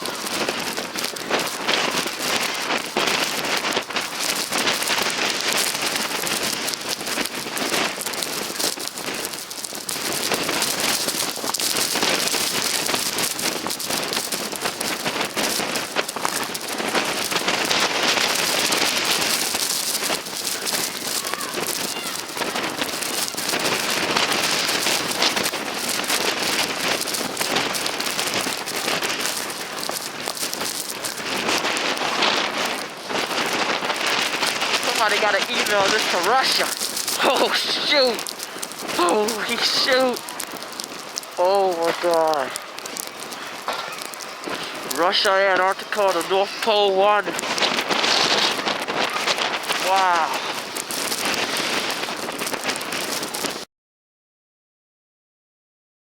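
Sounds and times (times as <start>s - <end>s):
blizzard wind with driven snow: 0.0s - 53.7s.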